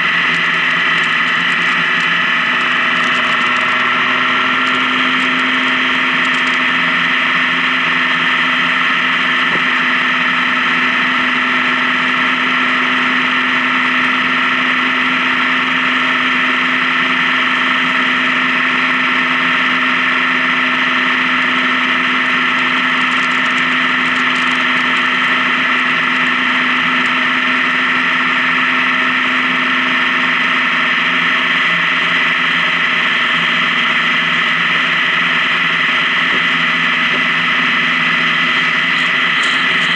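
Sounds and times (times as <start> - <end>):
motorcycle engine humming: 0.0 - 39.9
wind and road noise: 0.0 - 39.9.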